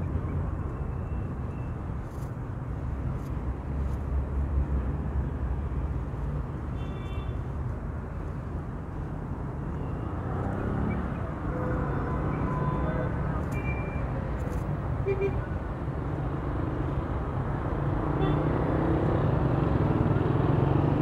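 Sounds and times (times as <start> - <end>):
city street traffic rumble: 0.0 - 21.0.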